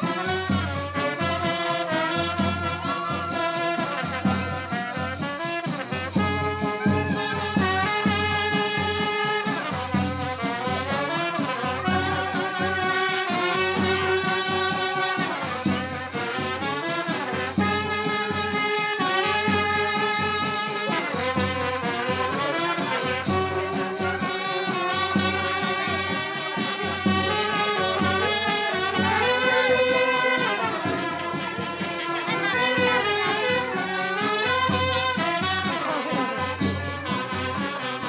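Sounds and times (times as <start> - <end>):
brass band playing: 0.0 - 38.0.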